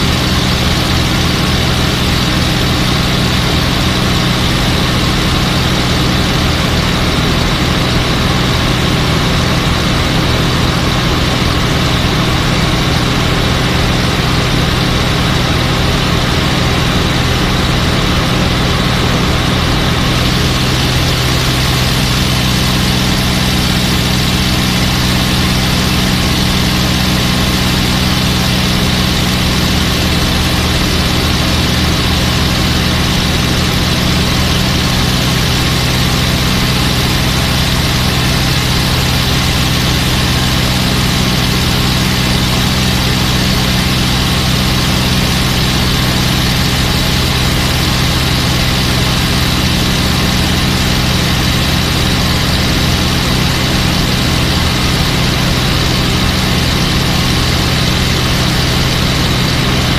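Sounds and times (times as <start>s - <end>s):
aircraft piston engine running: 0.0s - 59.9s
airflow rush: 0.0s - 59.9s.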